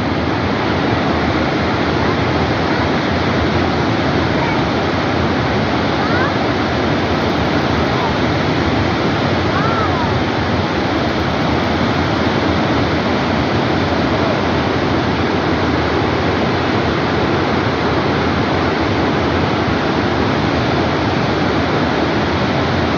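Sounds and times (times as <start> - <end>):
water rushing over waterfall: 0.0 - 22.9.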